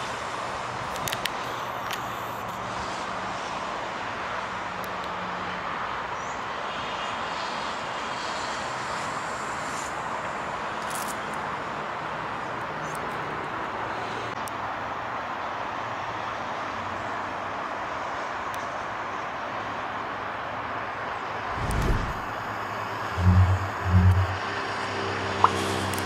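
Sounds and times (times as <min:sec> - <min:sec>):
distant city traffic roar: 0:00.0 - 0:26.0.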